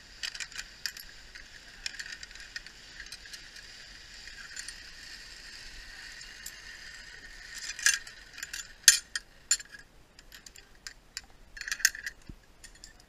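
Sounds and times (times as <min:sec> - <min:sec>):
steady hiss: 0:00.0 - 0:13.0
metal carabiners clicking: 0:00.2 - 0:04.9, 0:06.3 - 0:13.0.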